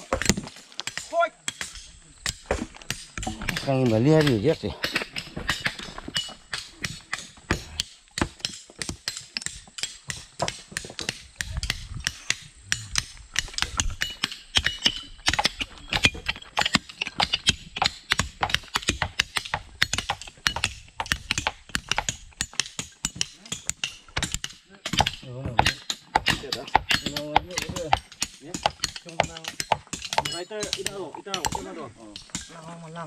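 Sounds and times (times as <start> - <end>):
sharp clicking and knocking: 0.0 - 32.6.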